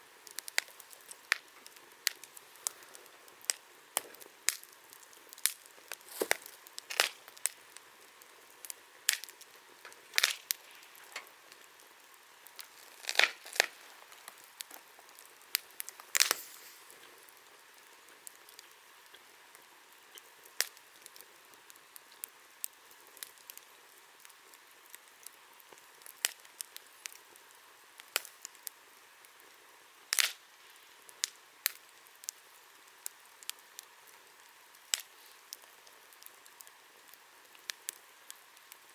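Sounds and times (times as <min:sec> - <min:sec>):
bonfire crackling and popping: 0:00.0 - 0:38.9
faint hiss: 0:00.0 - 0:38.9.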